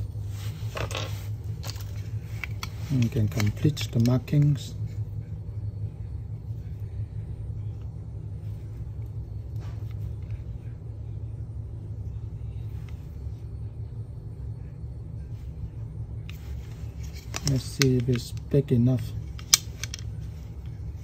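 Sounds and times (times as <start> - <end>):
faint hum: 0.0 - 21.0
low background rumble: 0.0 - 21.0.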